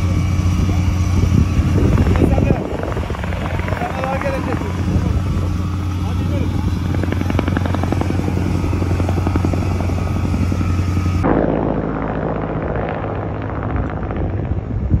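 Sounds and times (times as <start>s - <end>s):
helicopter engine hum: 0.0s - 15.0s
rapid rotor chopping: 0.0s - 15.0s.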